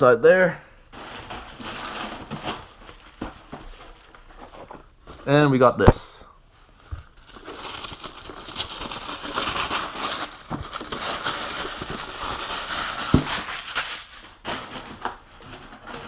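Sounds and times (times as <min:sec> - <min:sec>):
packaging crinkling and rustling: 0:00.9 - 0:05.3, 0:06.7 - 0:16.0.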